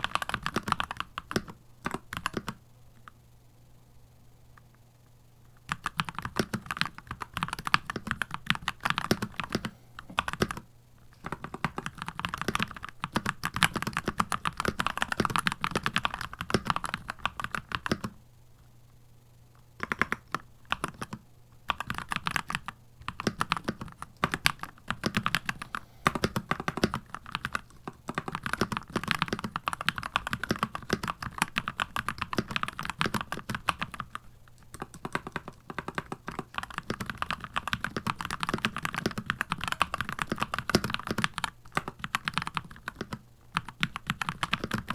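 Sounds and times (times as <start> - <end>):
typing on mechanical keyboard: 0.0 - 2.6, 5.7 - 18.2, 19.8 - 44.9.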